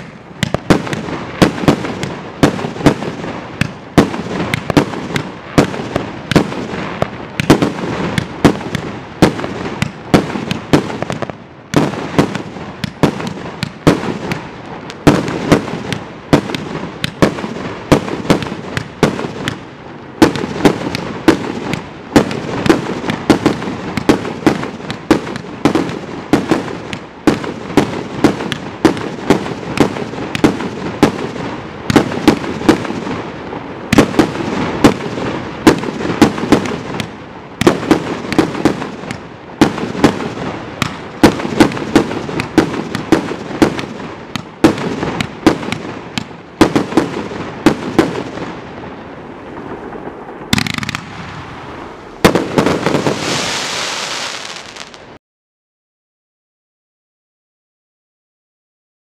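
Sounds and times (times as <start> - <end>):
firework bangs: 0.0 - 55.2
firework crackle: 0.0 - 55.2.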